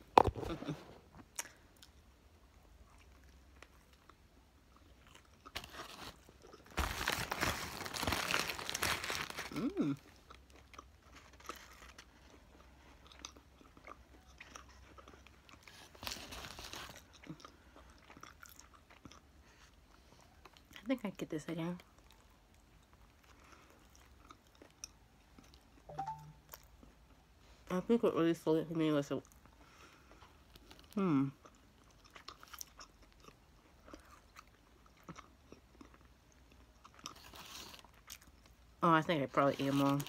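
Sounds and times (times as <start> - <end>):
person chewing and crunching food: 0.0 - 20.8, 21.8 - 27.4, 29.2 - 38.8.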